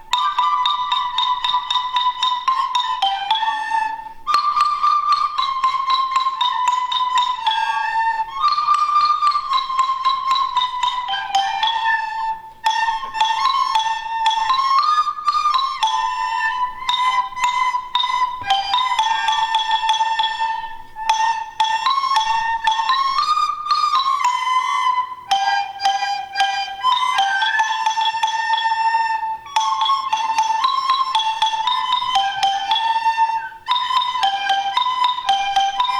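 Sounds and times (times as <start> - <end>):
flute-like melody: 0.0 - 35.9
mallet percussion notes: 0.0 - 35.9.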